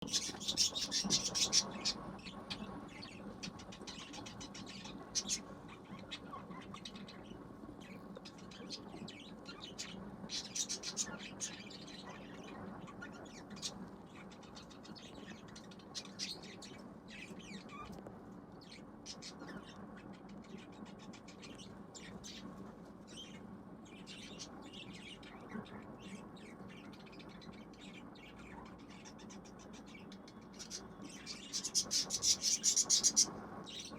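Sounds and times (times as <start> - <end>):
budgies chirping: 0.0 - 17.9, 18.6 - 33.9.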